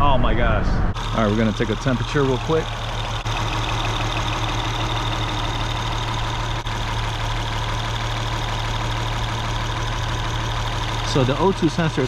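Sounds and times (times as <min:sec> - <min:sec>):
car engine idling: 0:01.0 - 0:12.0.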